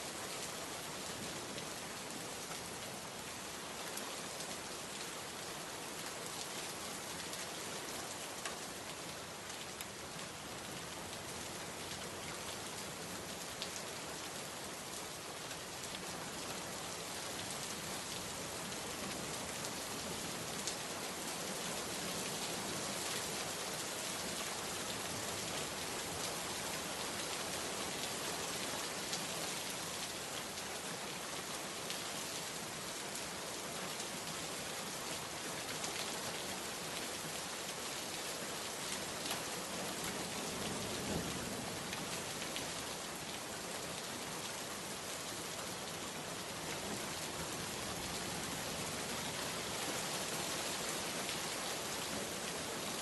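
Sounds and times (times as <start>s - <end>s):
heavy rain on hard surfaces: 0.0s - 53.0s.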